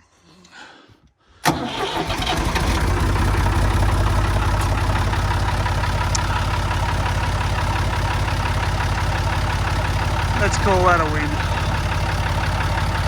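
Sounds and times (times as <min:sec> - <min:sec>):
backhoe engine idling: 0:01.5 - 0:13.0.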